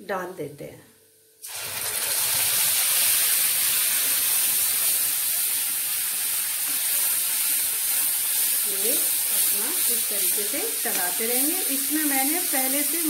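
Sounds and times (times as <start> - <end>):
paste sizzling in hot oil: 1.4 - 13.0.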